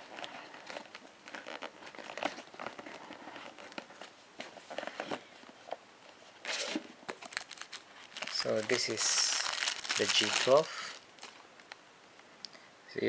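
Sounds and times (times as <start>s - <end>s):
cardboard box rustling: 0.0s - 5.8s, 6.4s - 11.3s.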